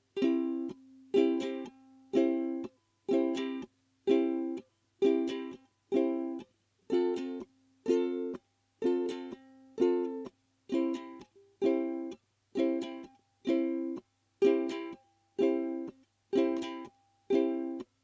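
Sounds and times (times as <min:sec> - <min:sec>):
ukulele damped strums: 0:00.1 - 0:18.0.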